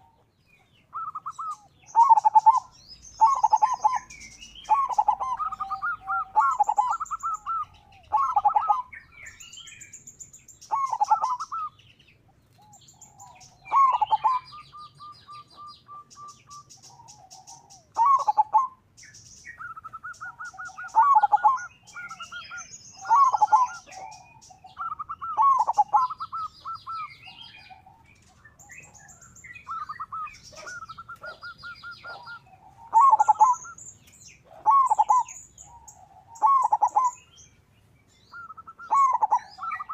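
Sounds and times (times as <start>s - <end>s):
dove cooing with rolling trill: 0.0s - 9.8s, 10.6s - 37.4s, 38.2s - 39.9s
small birds chirping: 0.0s - 39.9s.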